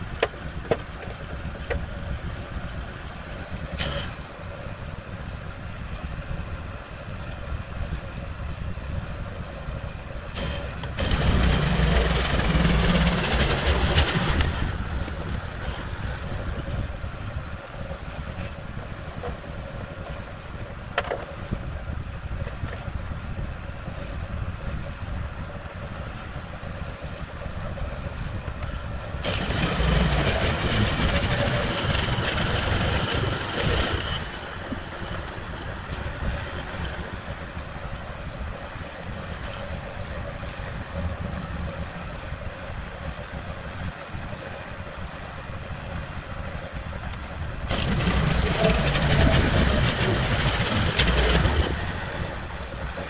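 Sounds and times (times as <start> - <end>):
sawmill engine running: 0.0 - 22.4, 25.2 - 43.5, 44.4 - 53.0.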